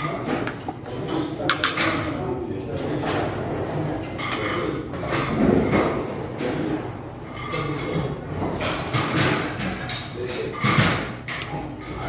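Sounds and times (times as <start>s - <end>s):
utensils clattering against pots: 0.0s - 12.0s.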